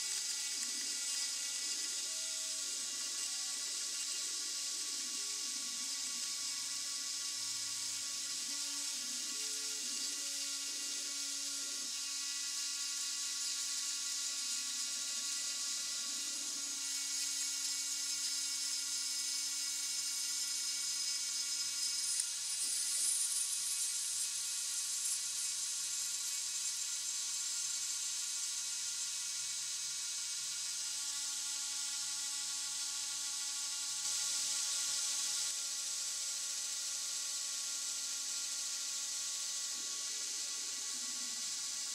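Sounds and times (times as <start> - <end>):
rotary tool whining cutting wood: 0.0 - 41.9.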